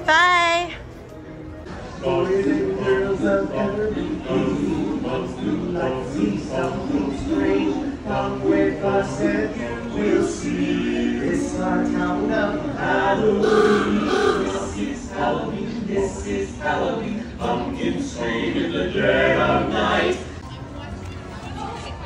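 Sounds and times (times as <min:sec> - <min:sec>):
male quartet singing a cappella: 0:02.0 - 0:20.4.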